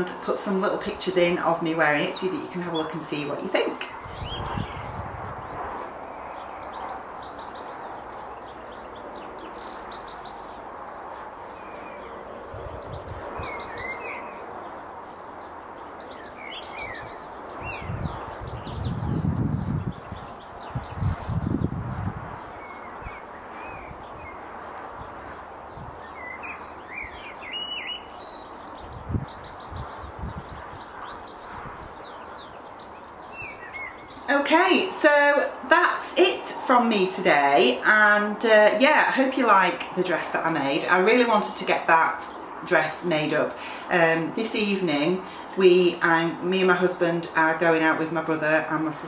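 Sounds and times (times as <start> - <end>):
outdoor background hiss: 0.0 - 49.0
songbirds chirping and singing: 0.0 - 49.0.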